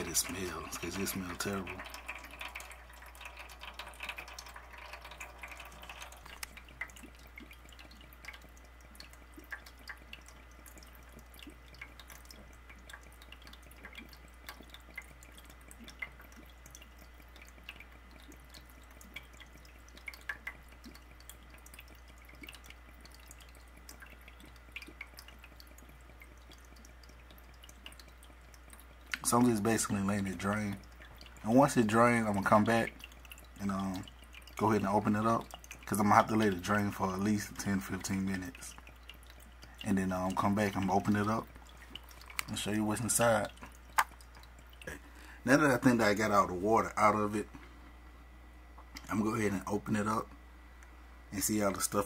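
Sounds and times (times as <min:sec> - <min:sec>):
water dripping: 0:00.0 - 0:47.6, 0:48.6 - 0:52.0
water trickling into drain pan: 0:00.0 - 0:47.6.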